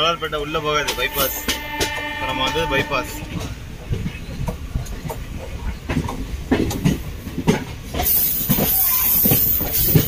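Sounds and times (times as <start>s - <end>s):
train rumble: 0.0s - 10.0s
wheels clacking over rail joints: 0.0s - 10.0s.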